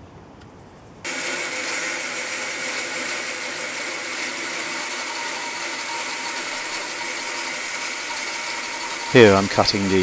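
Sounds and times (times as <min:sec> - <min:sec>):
bandsaw cutting wood: 0:01.1 - 0:10.0.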